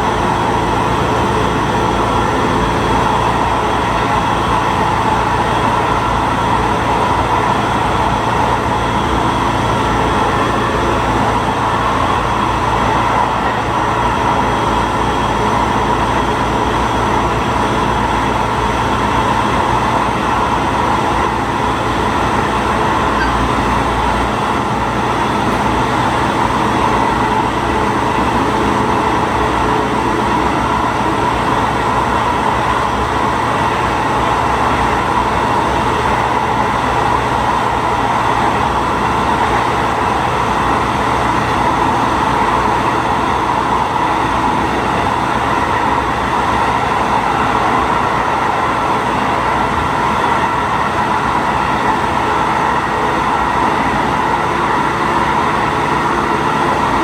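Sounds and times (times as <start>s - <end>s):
railcar engine hum: 0.0s - 57.0s
train wheels on track: 0.0s - 57.0s.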